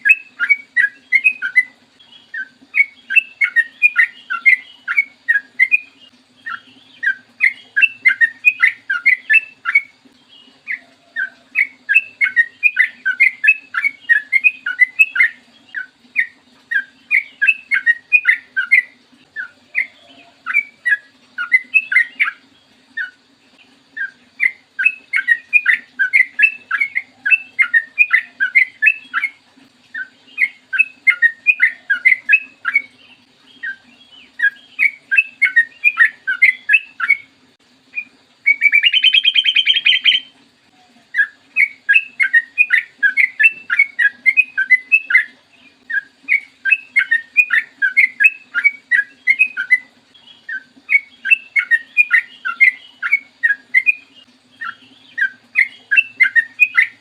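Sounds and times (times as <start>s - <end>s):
bird chirping: 0.0s - 57.0s
faint steady hum: 0.0s - 57.0s.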